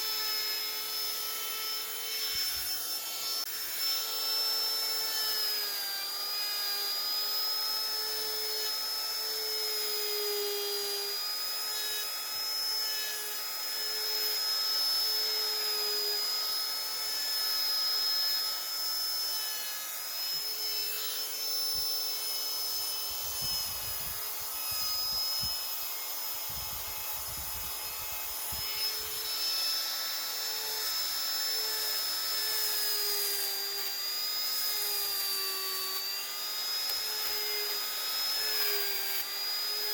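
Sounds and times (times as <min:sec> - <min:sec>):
rotary tool grinding wood: 0:00.0 - 0:39.9.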